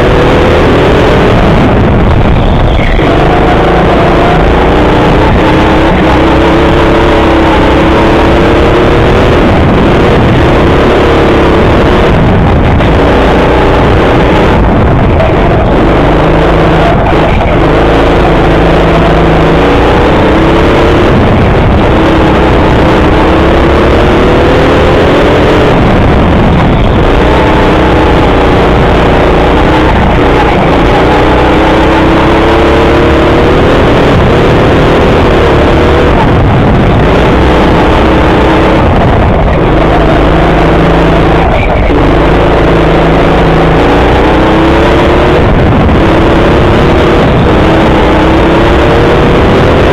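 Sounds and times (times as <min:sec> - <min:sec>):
go-kart motor accelerating: 0:00.0 - 0:49.9.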